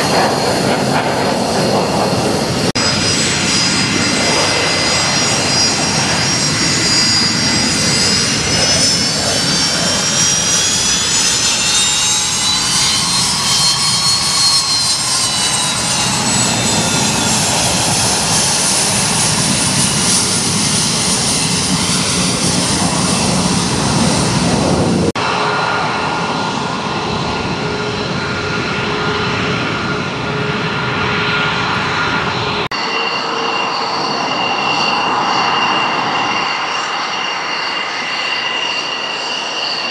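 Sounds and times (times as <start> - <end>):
fighter jet engine on runway: 0.0 - 39.9
jet engines whining: 0.0 - 39.9.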